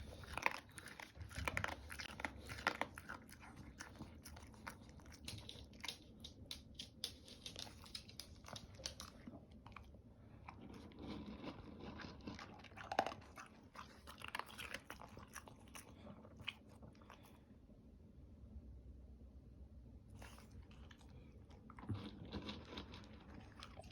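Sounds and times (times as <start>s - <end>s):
dog chewing food: 0.0s - 17.4s, 20.2s - 23.9s.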